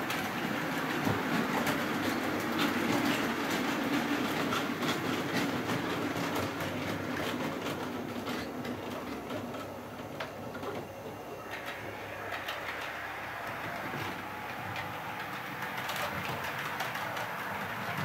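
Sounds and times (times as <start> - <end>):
wheels clicking over rail joints: 0.0 - 10.9, 11.5 - 18.0
model trains rumbling: 0.0 - 18.0.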